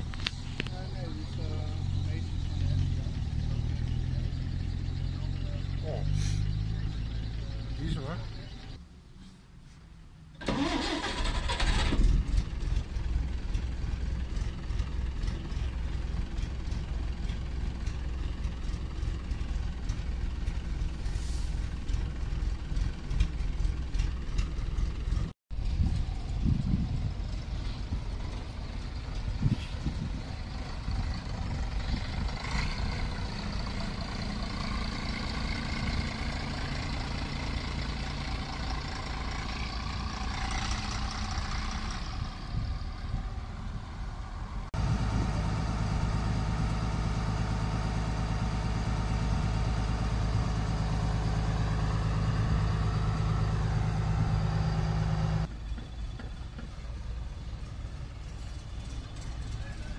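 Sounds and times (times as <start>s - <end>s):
diesel bus engines running: 0.0s - 8.8s, 9.6s - 59.9s
steady engine hum: 0.0s - 9.0s, 10.1s - 59.9s
coach pulling away: 10.4s - 59.9s.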